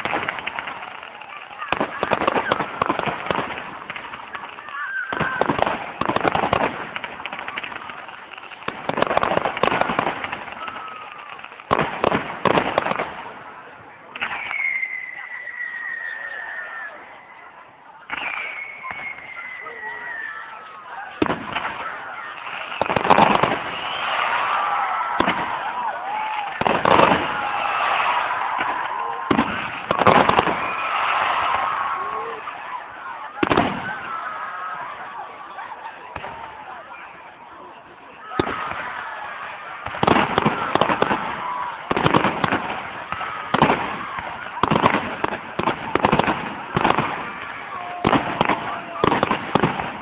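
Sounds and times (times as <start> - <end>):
faint fireworks whistle: 0.0 - 12.9, 14.1 - 37.5, 38.2 - 50.0
crowd voices: 0.0 - 50.0
fireworks crackling bangs: 0.0 - 50.0.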